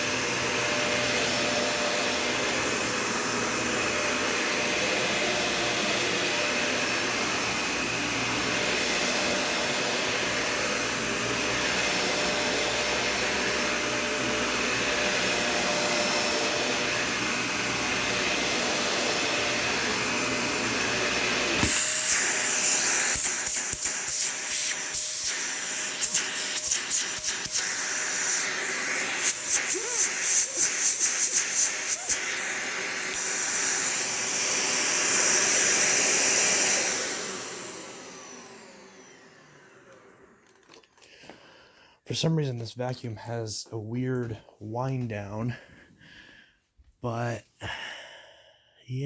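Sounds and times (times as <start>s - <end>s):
upright vacuum running: 0.0s - 41.7s.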